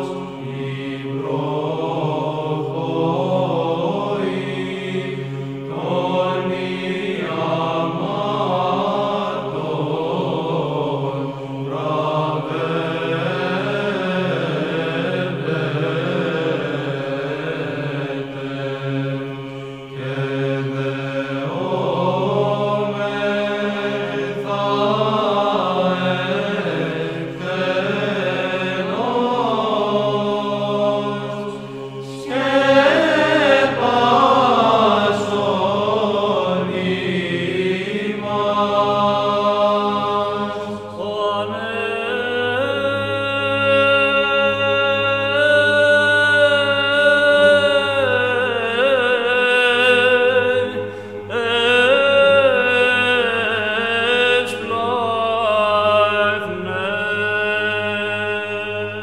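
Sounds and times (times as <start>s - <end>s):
chanted melody: 0.0s - 55.5s
held vocal drone: 0.0s - 59.0s.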